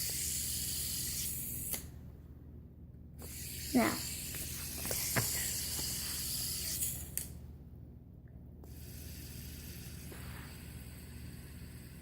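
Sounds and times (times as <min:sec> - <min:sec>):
fidget spinner whirring: 0:00.0 - 0:02.0, 0:03.2 - 0:07.4, 0:08.6 - 0:12.0.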